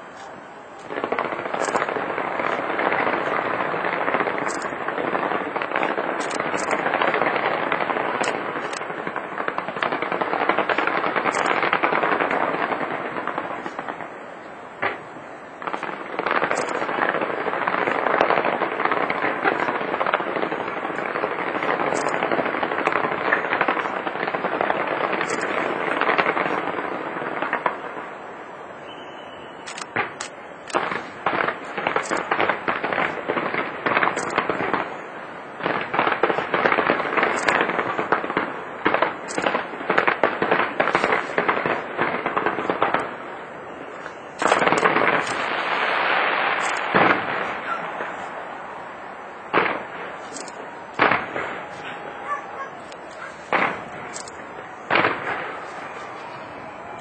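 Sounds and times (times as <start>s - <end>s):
fireworks bangs and crackle: 0.0s - 57.0s.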